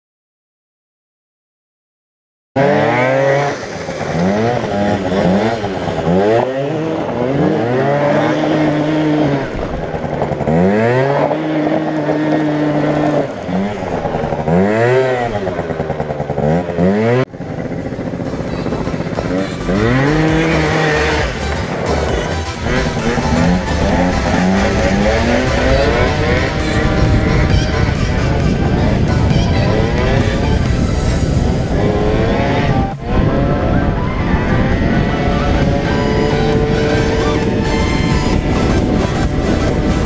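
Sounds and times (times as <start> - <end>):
scooter engine revving: 2.6 - 40.0.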